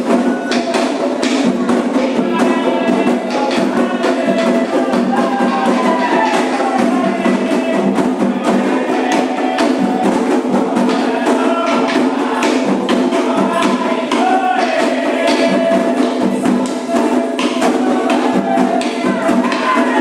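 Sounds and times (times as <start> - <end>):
chanted singing: 0.0 - 20.0
hand percussion: 0.0 - 20.0.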